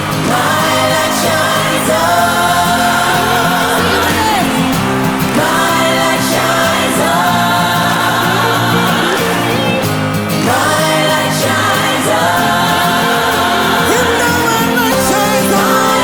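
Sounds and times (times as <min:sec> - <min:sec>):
live concert music with singing: 0:00.0 - 0:16.0.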